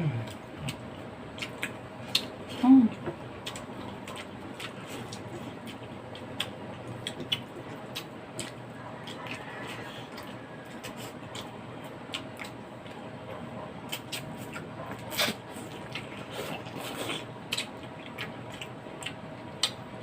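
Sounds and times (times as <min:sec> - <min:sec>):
faint steady hum: 0:00.0 - 0:20.0
person chewing: 0:00.1 - 0:20.0.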